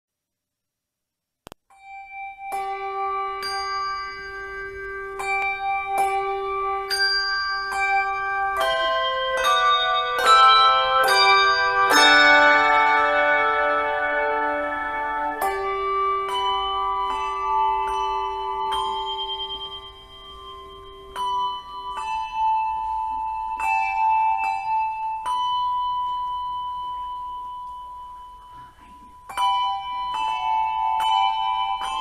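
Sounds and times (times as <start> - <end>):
ringing bell tones: 1.7 - 32.0.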